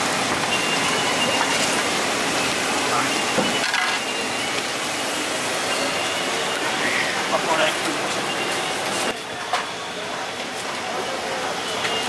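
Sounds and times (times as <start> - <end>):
hissing street-food stall: 0.0 - 12.0.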